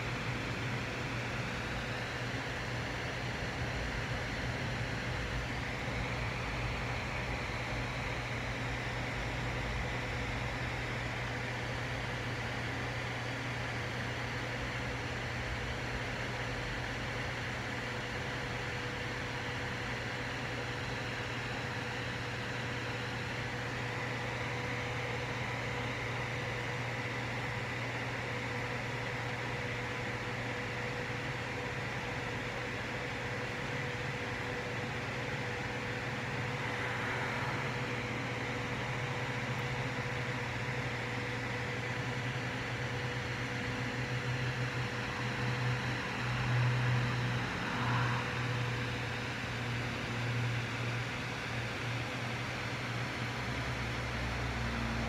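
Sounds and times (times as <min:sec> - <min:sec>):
machine hum with hiss: 0:00.0 - 0:55.0.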